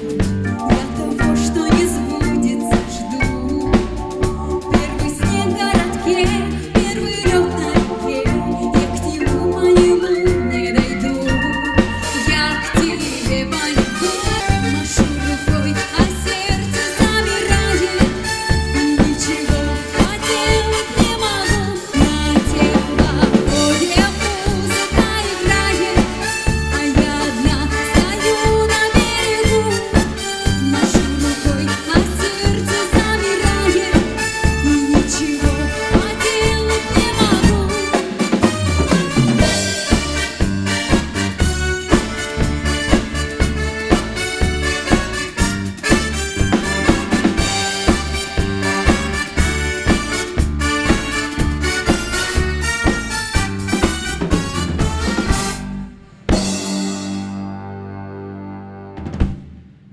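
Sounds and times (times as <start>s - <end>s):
swinging drum and bass beat: 0.0s - 57.5s
live band music: 0.0s - 59.9s.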